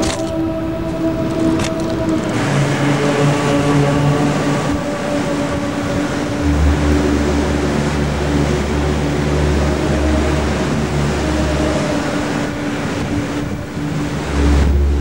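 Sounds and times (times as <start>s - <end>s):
deep low hum: 0.0s - 12.2s
dense rushing noise: 0.0s - 15.0s
droning tones: 0.0s - 15.0s.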